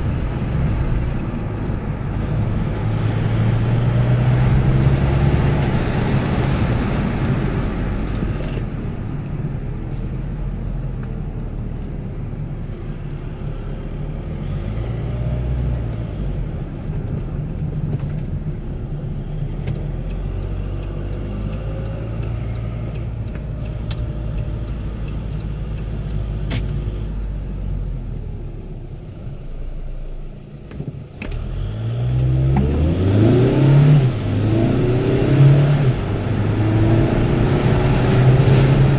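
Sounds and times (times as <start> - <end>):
diesel car engine running: 0.0 - 38.9.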